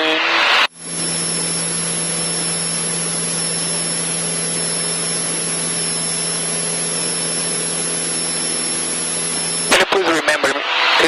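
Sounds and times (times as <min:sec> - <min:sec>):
thin high-pitched whine: 0:00.0 - 0:09.9.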